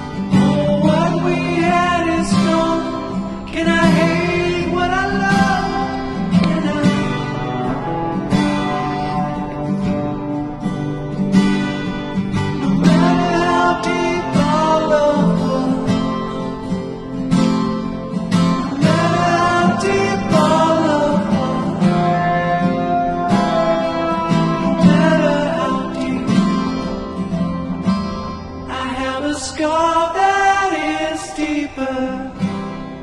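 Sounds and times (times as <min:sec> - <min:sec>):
person singing: 0:00.0 - 0:10.9, 0:12.4 - 0:17.1, 0:18.4 - 0:27.4, 0:28.7 - 0:32.5
acoustic guitar: 0:00.0 - 0:33.0.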